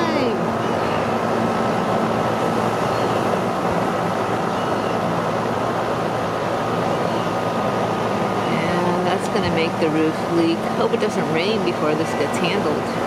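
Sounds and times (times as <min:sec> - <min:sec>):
loud whooshing machine hum: 0:00.0 - 0:13.0.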